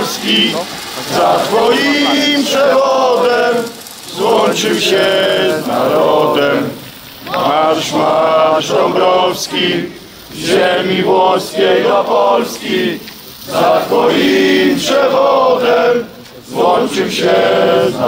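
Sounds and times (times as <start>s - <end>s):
crowd chanting in unison: 0.0s - 18.0s.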